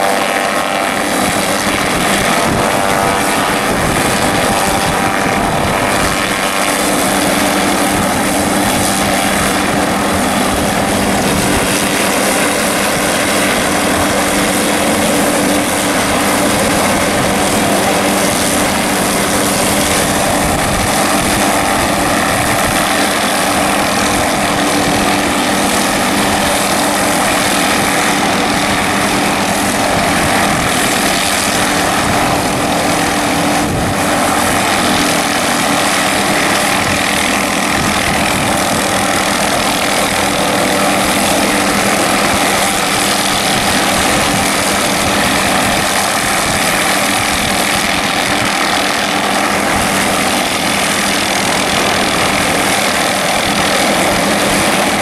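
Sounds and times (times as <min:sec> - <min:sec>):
helicopter hovering: 0:00.0 - 0:55.0.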